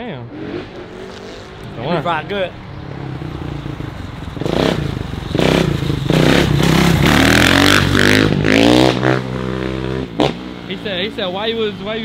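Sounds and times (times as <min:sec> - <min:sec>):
dirt bike engine revving: 0:00.3 - 0:12.0.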